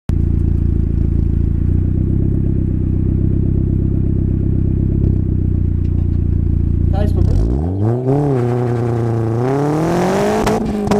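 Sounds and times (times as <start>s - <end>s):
car engine idling: 0.1s - 9.5s.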